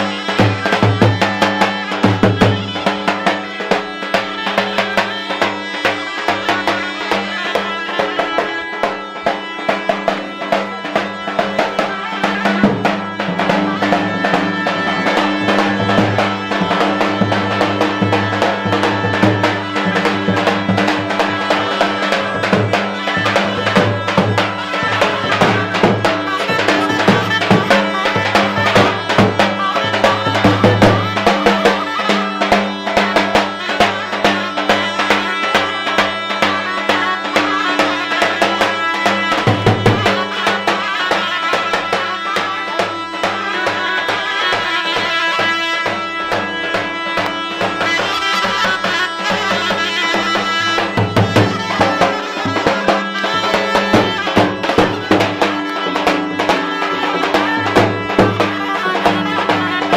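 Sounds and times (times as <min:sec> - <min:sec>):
folk dance music: 0:00.0 - 0:59.9
large drum beating fast rhythm: 0:00.0 - 0:59.9
wind instrument playing melody: 0:00.0 - 0:59.9.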